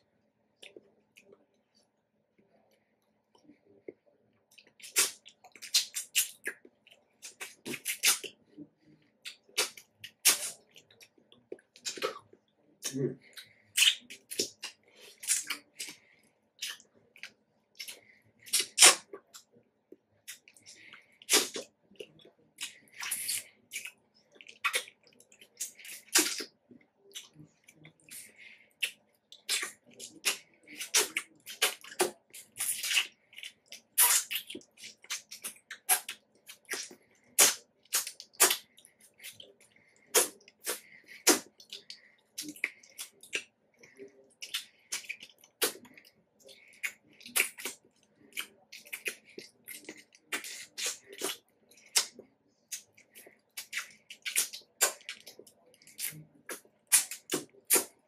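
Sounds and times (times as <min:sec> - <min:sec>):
wet mouth sounds eating fruit: 0:03.4 - 0:08.5, 0:09.2 - 0:19.5, 0:20.2 - 0:58.0.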